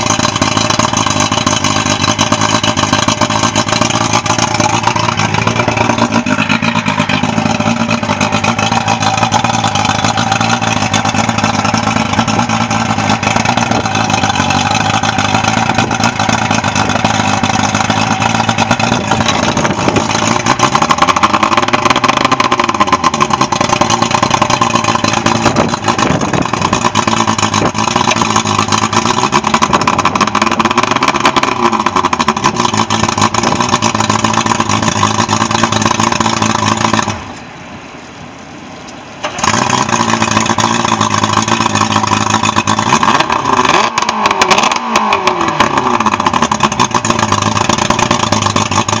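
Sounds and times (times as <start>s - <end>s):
outboard engine revving: 0.0s - 37.6s, 39.2s - 49.0s.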